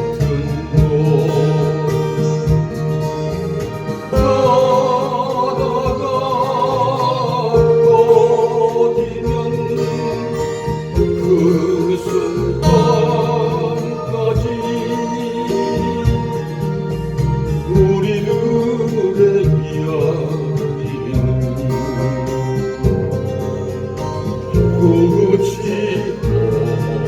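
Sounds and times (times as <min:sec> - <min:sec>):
acoustic guitar strumming: 0:00.0 - 0:27.0
person singing with vibrato: 0:00.0 - 0:27.0.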